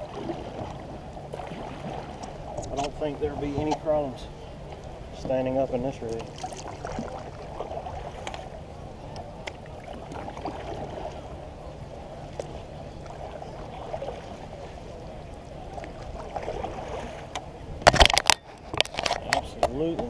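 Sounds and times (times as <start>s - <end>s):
water lapping against kayak hull: 0.0s - 20.0s.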